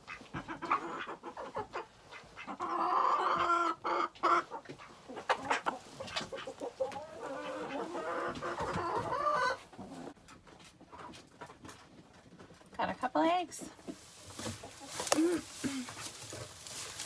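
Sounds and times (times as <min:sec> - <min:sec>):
drawn-out hen calls: 0:00.0 - 0:10.2, 0:12.8 - 0:17.0
hens clucking: 0:00.0 - 0:17.0.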